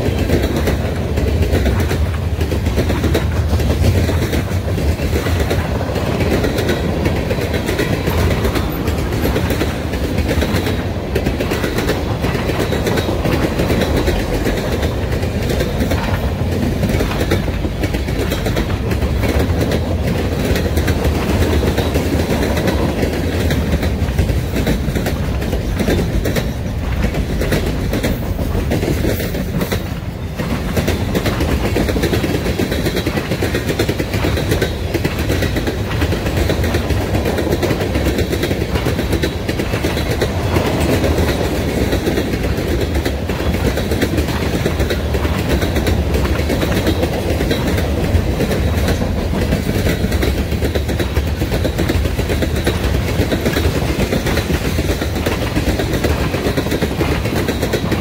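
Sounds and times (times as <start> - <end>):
freight train cars rolling: 0.0 - 58.0
wheels clicking over rail joints: 0.0 - 58.0.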